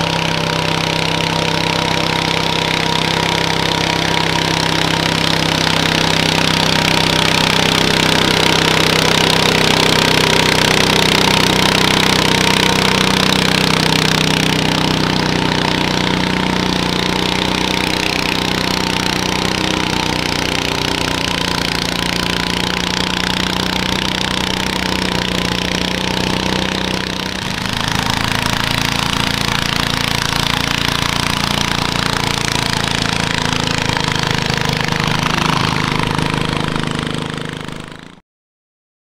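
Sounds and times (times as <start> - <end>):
small tractor engine running hard: 0.0 - 38.2.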